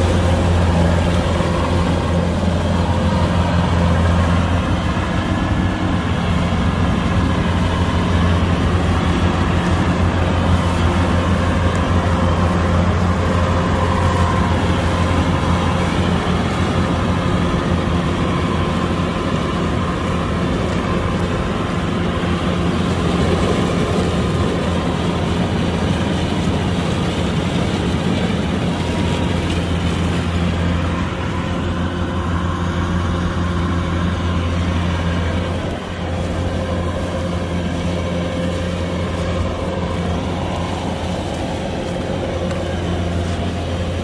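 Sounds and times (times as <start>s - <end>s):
combine harvester engine hum: 0.0s - 44.0s
threshing machinery whirring: 0.0s - 44.0s.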